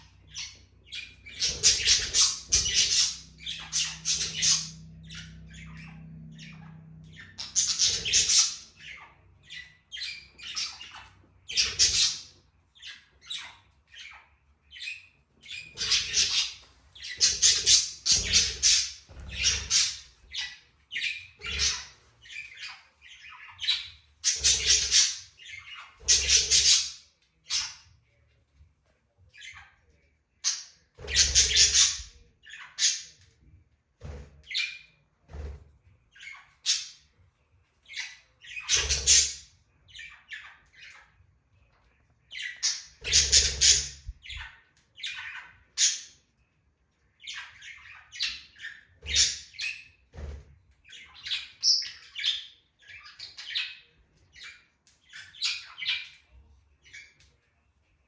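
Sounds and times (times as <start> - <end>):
budgerigars chattering and squawking: 0.0 - 27.9, 30.4 - 33.3, 34.0 - 37.2, 37.8 - 41.2, 42.2 - 46.4, 47.1 - 57.2.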